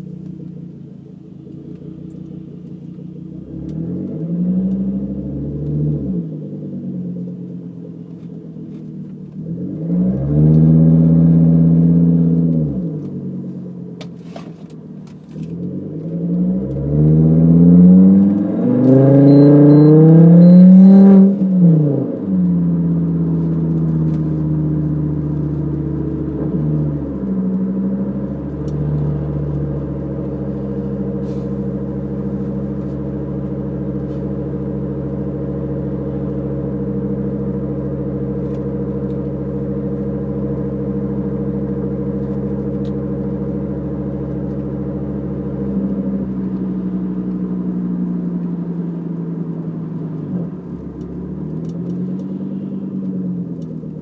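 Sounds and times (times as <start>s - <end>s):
car exhaust note accelerating: 0.0s - 54.0s.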